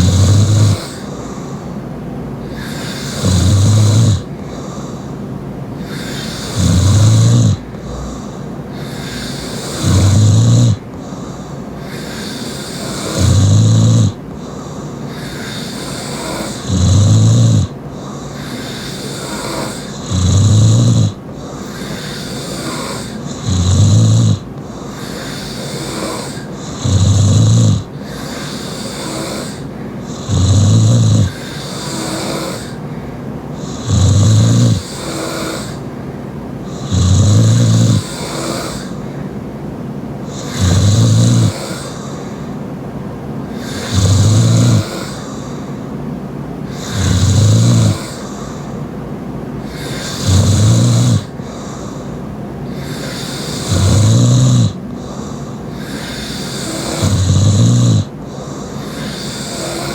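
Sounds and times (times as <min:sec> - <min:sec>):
person snoring loudly: 0:00.0 - 0:01.7, 0:02.4 - 0:05.1, 0:05.8 - 0:32.9, 0:33.6 - 0:35.9, 0:36.6 - 0:39.2, 0:40.2 - 0:42.6, 0:43.5 - 0:45.9, 0:46.7 - 0:48.8, 0:49.6 - 0:59.9
breathy airflow: 0:00.0 - 0:59.9.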